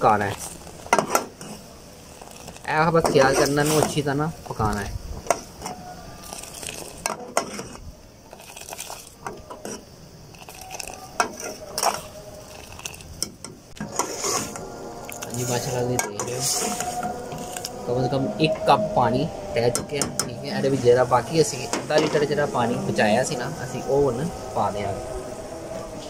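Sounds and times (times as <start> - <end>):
tea boiling and bubbling: 0.0 - 26.0.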